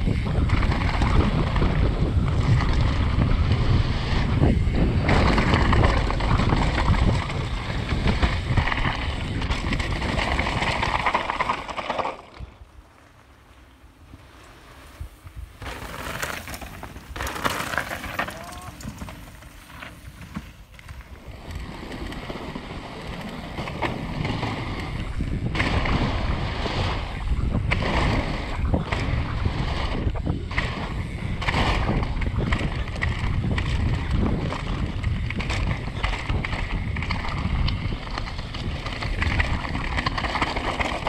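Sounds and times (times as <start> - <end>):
wind buffeting microphone: 0.0 - 13.0, 13.8 - 41.0
bike tyres rumbling and rattling: 0.0 - 41.0.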